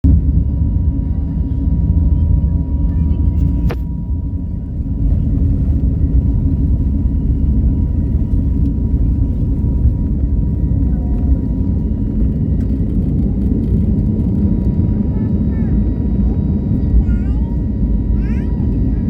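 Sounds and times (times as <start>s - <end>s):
airliner rumble during takeoff: 0.0s - 19.0s
faint steady whine: 0.1s - 19.0s.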